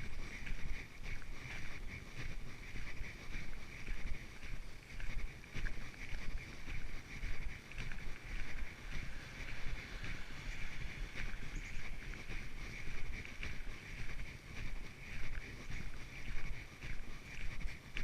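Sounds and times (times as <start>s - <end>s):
footsteps on trail: 0.0s - 18.0s
wind rumbling on microphone: 0.0s - 18.0s.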